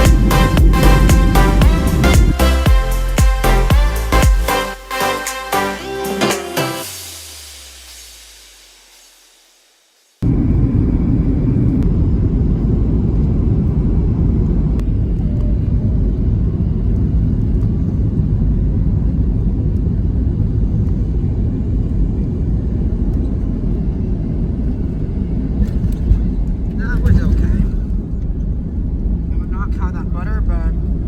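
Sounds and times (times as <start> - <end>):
airliner cabin engine drone: 0.0 - 8.5, 10.2 - 31.0.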